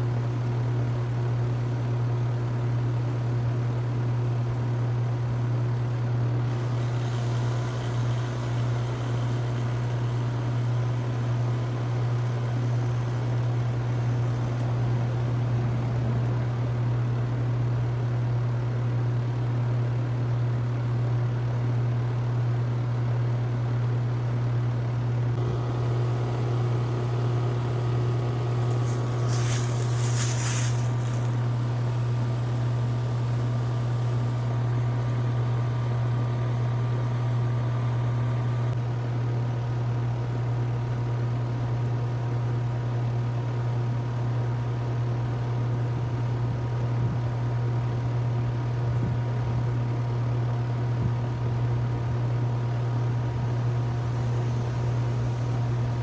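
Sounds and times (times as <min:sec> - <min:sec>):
heat pump humming and whirring: 0:00.0 - 0:56.0.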